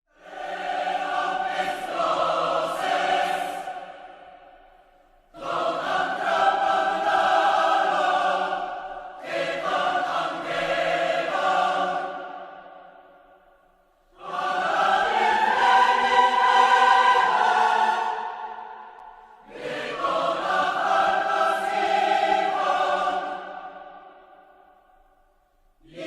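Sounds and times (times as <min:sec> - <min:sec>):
choir singing held chords: 0:00.1 - 0:26.0.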